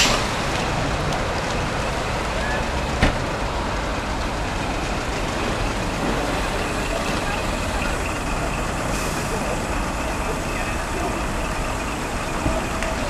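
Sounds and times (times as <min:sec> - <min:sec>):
heavy lorry engine running: 0:00.0 - 0:13.0.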